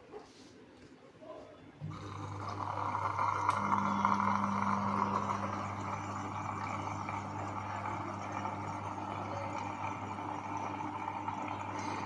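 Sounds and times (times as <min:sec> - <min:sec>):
washing machine motor hum: 0:01.8 - 0:12.0.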